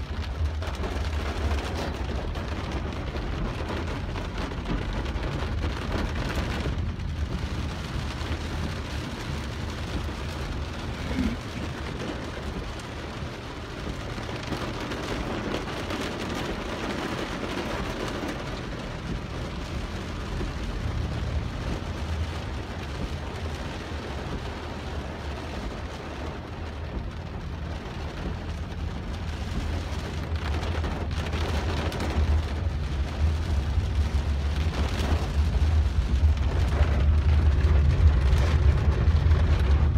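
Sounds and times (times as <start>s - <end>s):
heavy rain on car roof: 0.0s - 39.9s
steady low rumble: 0.0s - 39.9s.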